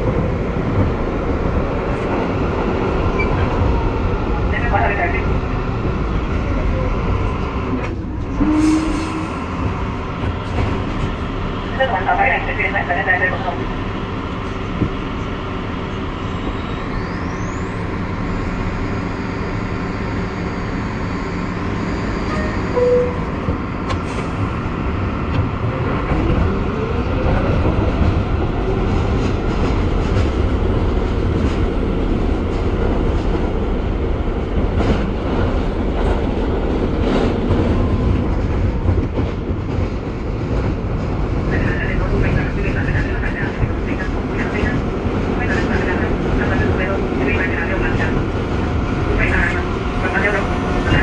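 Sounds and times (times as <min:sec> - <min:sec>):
train wheels rumbling on rails: 0:00.0 - 0:16.3, 0:17.6 - 0:51.0
rising train whine: 0:00.0 - 0:51.0.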